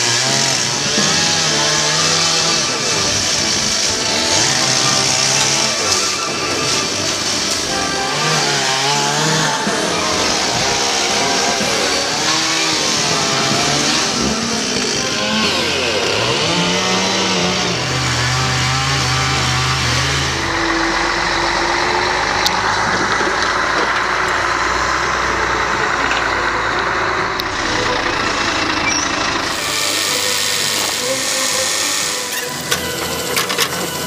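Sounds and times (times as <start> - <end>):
heavy engine running with hiss: 0.0 - 34.0
small engine revving: 0.0 - 34.0.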